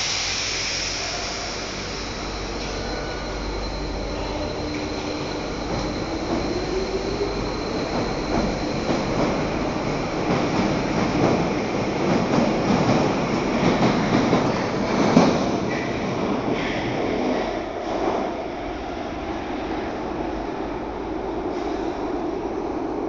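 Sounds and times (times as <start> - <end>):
train wheels rumbling and clattering: 0.0 - 23.0.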